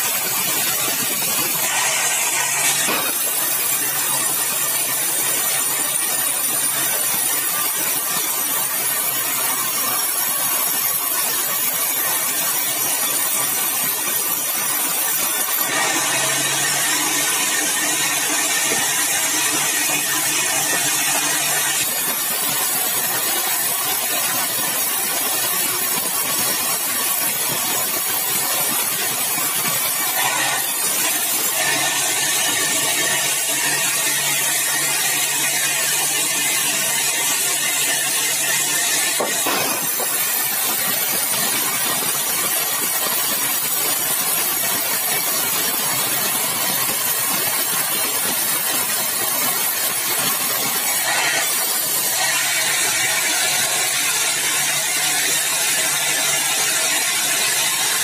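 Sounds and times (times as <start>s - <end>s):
sawmill saw cutting hardwood: 0.0s - 58.0s.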